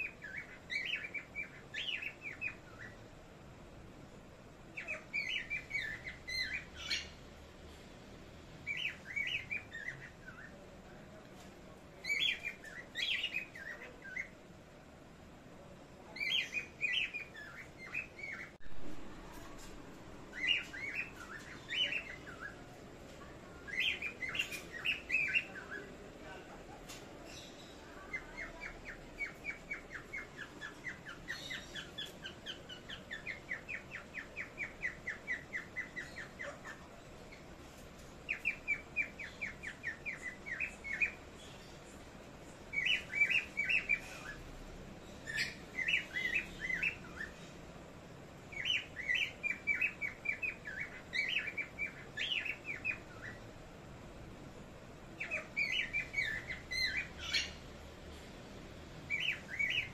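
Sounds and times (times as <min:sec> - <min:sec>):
small parrots chirping: 0:00.0 - 0:03.2, 0:04.6 - 0:07.5, 0:08.6 - 0:10.6, 0:12.0 - 0:14.5, 0:16.1 - 0:18.7, 0:19.3 - 0:47.6, 0:48.4 - 0:54.4, 0:55.0 - 0:57.9, 0:58.9 - 0:59.9.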